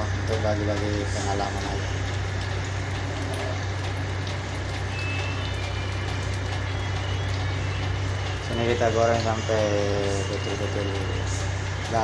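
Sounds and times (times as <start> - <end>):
low hum of ship engines: 0.0 - 12.0
vegetables deep-frying in hot oil: 0.0 - 12.0.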